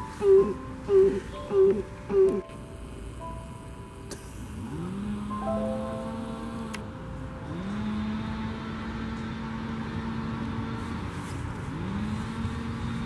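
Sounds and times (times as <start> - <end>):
low machine hum rising in pitch: 0.0 - 13.0.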